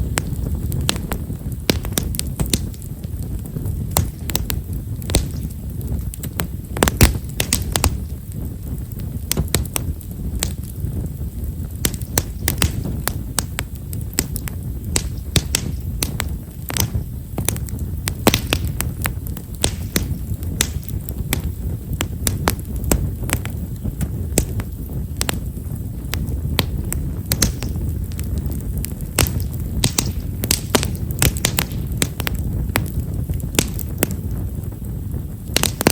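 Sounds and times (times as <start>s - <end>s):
campfire crackling: 0.0s - 35.9s
fire rumbling: 0.0s - 35.9s.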